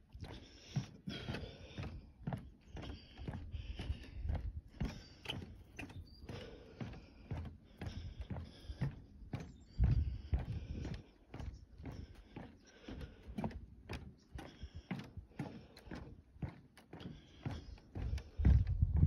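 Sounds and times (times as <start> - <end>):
footsteps on wooden boardwalk: 0.0 - 19.0.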